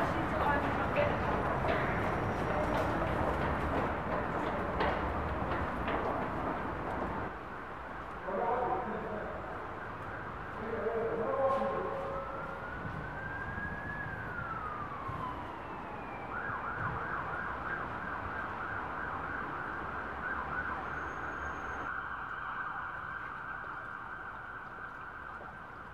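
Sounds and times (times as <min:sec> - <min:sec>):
emergency vehicle siren: 0:00.0 - 0:07.4, 0:08.2 - 0:25.9.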